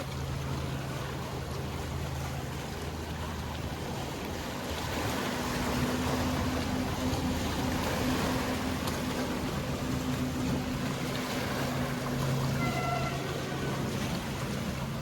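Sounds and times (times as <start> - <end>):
boat engine humming: 0.0 - 15.0
higher engine tone: 0.0 - 15.0
sea water washing: 0.0 - 15.0.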